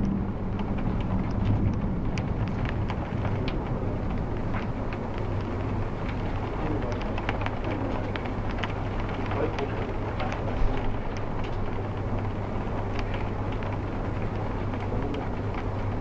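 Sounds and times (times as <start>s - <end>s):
rain falling: 0.0s - 16.0s
raindrops ticking on glass: 0.0s - 16.0s
steady low hum: 0.0s - 16.0s.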